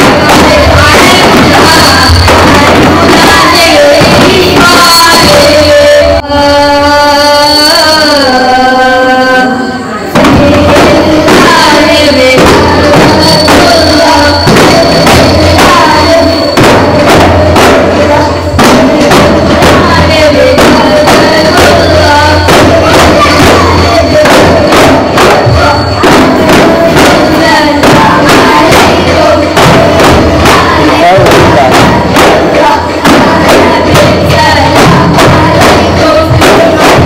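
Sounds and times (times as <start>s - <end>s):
frame drums beating: 0.0s - 6.2s, 10.2s - 37.0s
group singing in chorus: 0.0s - 37.0s.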